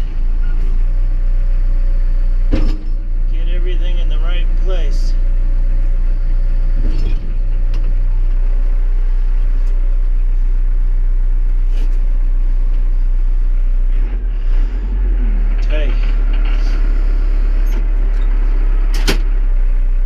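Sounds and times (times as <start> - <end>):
backhoe engine rumbling: 0.0 - 20.0.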